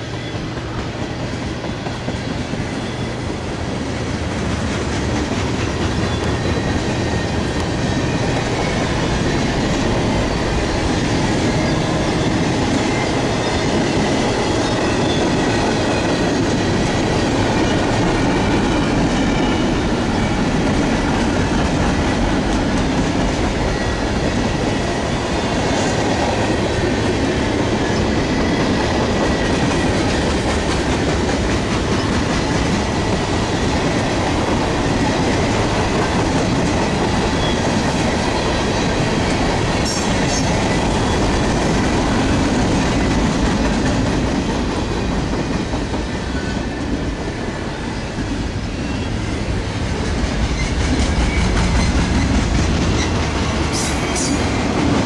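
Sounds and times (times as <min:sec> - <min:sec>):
clickety-clack over rail joints: 0:00.0 - 0:47.4, 0:49.7 - 0:55.0
train wheels rumbling on rails: 0:00.0 - 0:55.0.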